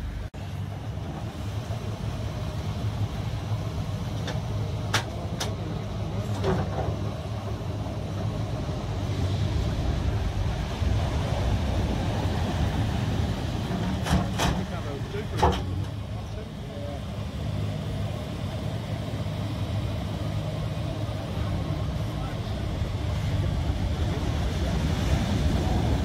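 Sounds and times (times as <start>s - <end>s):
diesel excavator engine running: 0.0s - 26.0s
surf breaking: 1.3s - 17.4s, 19.4s - 26.0s.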